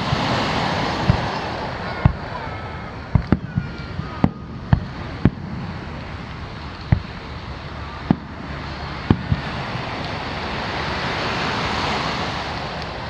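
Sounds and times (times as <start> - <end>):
fireworks bangs: 0.0 - 11.6.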